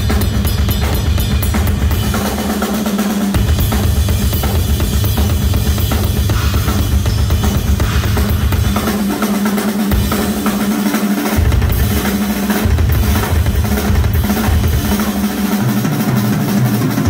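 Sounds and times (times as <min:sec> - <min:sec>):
cymbals: 0:00.0 - 0:17.0
driving bass drums: 0:00.0 - 0:17.0.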